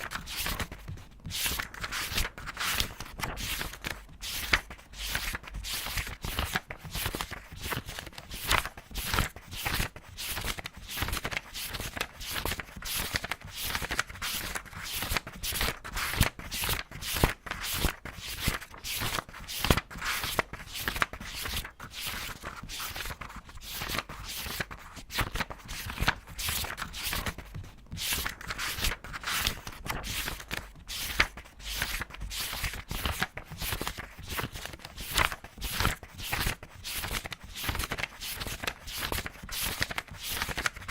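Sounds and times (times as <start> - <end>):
book pages flipping: 0.0 - 40.9.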